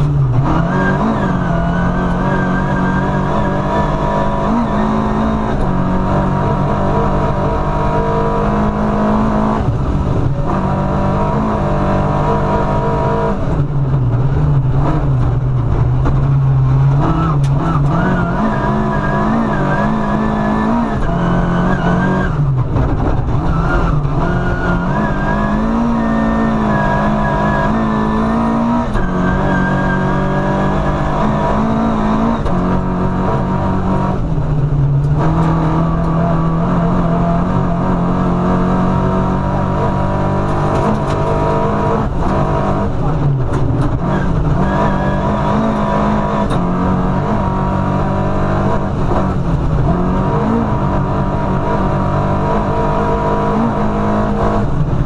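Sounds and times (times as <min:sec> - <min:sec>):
rally car engine revving: 0:00.0 - 0:55.0
tyre and road noise: 0:00.0 - 0:55.0.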